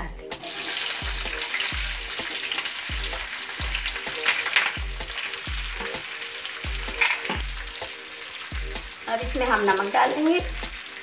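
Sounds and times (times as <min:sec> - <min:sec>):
vegetables sizzling in hot oil: 0:00.3 - 0:11.0.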